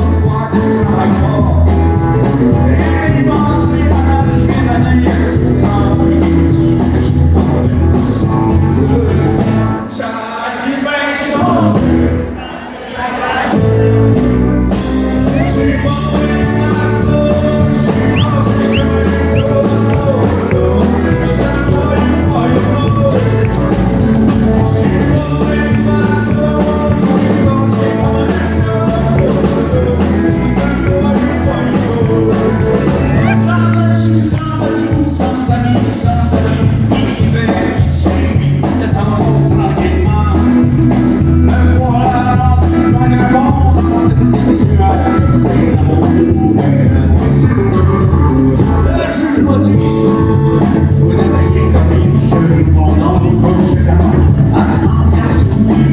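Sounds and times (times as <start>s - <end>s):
acoustic guitar: 0.0s - 55.9s
live country band playing: 0.0s - 55.9s
man singing: 0.0s - 55.9s.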